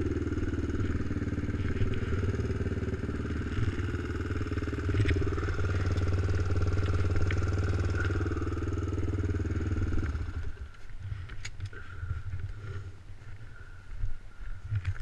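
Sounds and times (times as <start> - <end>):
atv engine idling: 0.0 - 14.9.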